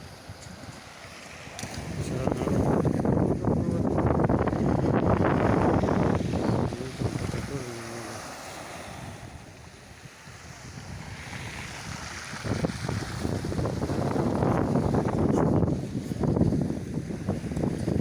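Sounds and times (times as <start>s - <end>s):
waves washing onto pebbles: 0.0s - 18.0s
wind buffeting microphone: 0.0s - 18.0s.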